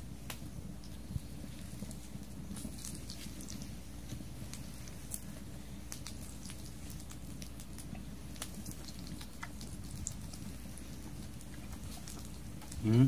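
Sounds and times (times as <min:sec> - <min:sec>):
low steady rumble: 0:00.0 - 0:13.0
wood fire popping and crackling: 0:00.0 - 0:13.0.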